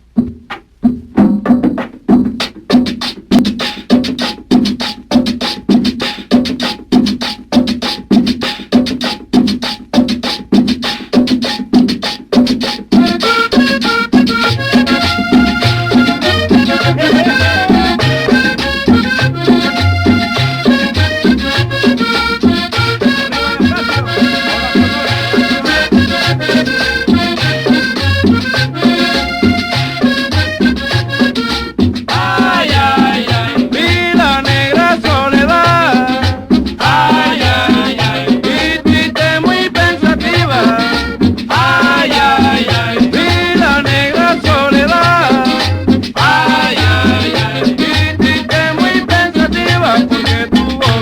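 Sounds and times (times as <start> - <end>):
cumbia dance music: 0.0 - 51.0
percussion beat: 0.0 - 51.0.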